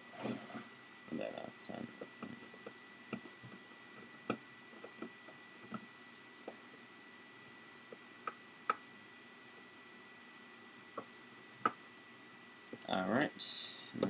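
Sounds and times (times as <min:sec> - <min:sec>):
faint high whine and hiss: 0:00.0 - 0:14.0.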